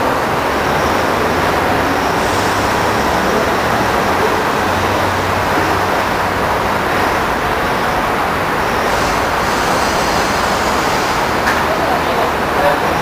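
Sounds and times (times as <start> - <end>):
distant road traffic roar: 0.0 - 13.0.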